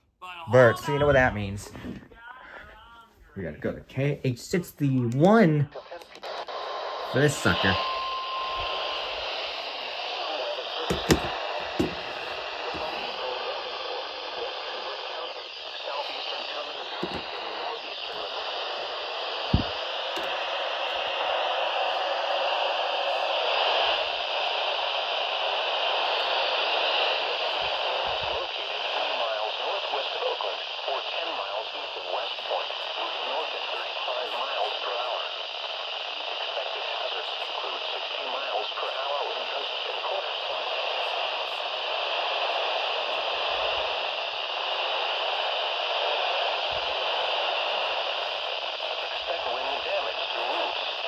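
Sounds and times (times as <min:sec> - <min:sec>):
radio static hiss: 0:00.0 - 0:51.0.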